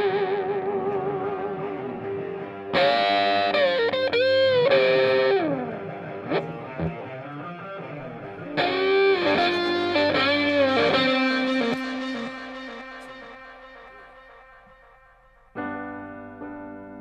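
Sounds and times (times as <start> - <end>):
distorted electric guitar: 0.0 - 16.5.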